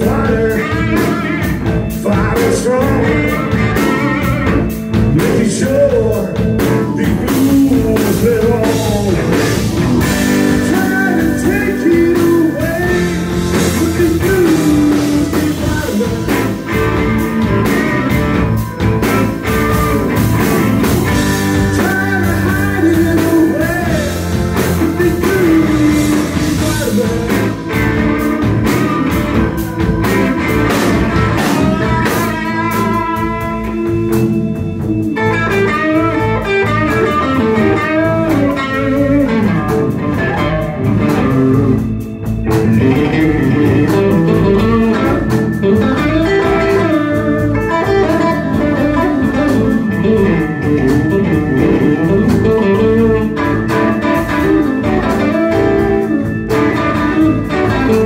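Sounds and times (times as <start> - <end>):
blues-rock band playing: 0.0 - 58.0
electric guitar lead: 0.0 - 58.0.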